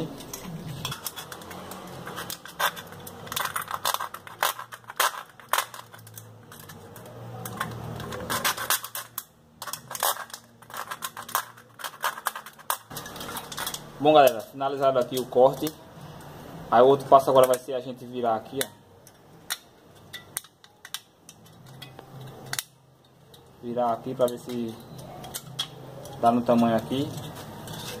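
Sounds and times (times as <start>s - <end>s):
aluminium can crinkling and snapping: 0.0s - 15.9s, 17.2s - 17.7s, 18.4s - 28.0s.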